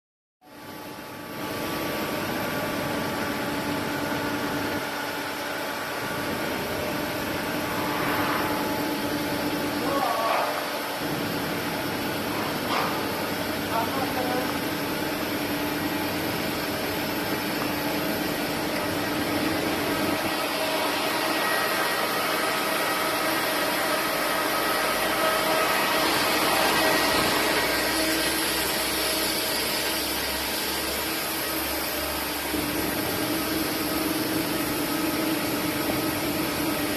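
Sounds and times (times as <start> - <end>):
industrial machinery hum: 0.5 - 36.9.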